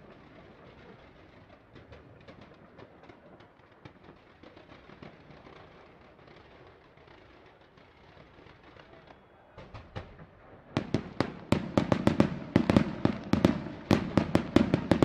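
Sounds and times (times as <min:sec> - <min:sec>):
fireworks popping and crackling: 0:00.0 - 0:15.0.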